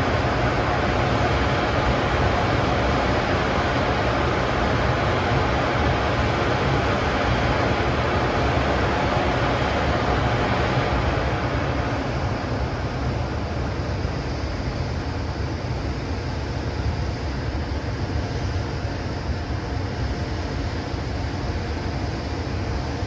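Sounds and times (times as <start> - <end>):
locomotive cooling blowers humming: 0.0 - 23.0.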